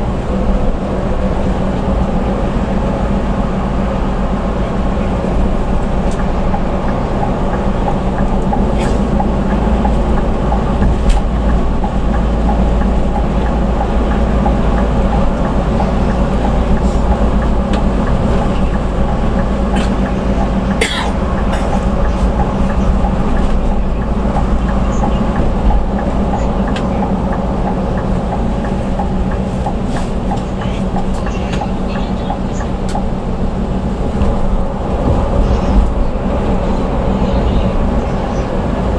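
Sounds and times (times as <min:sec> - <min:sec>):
bus engine drone: 0:00.0 - 0:38.9
road noise: 0:00.0 - 0:38.9.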